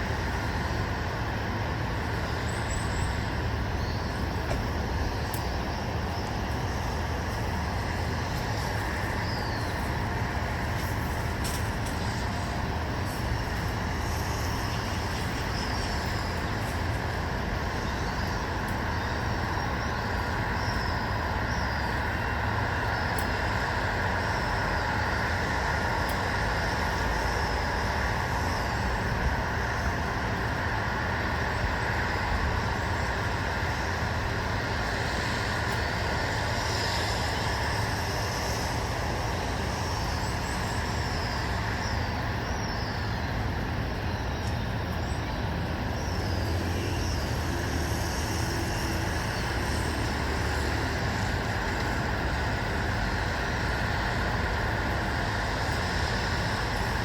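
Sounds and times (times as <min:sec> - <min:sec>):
distant road traffic: 0:00.0 - 0:57.0.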